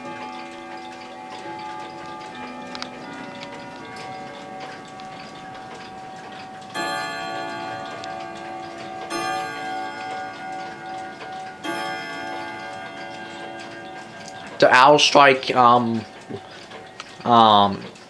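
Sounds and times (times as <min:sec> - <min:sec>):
chime ringing: 0:00.0 - 0:17.7
clock striking: 0:00.0 - 0:18.0
clock ticking: 0:00.0 - 0:18.0.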